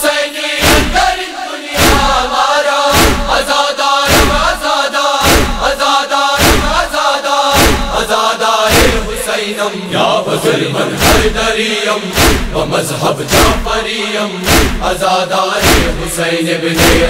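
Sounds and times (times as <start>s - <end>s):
male chorus chanting: 0.0s - 17.0s.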